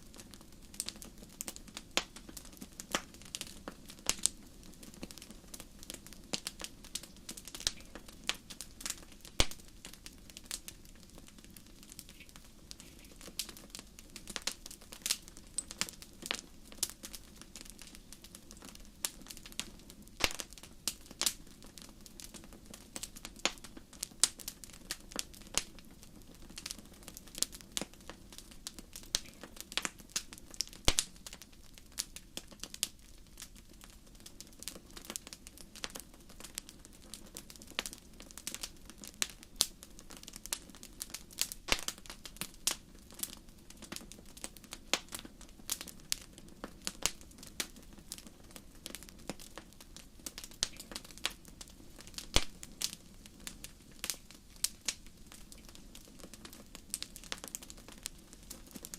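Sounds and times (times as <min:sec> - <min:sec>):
fire crackling with pops: 0:00.0 - 0:58.9.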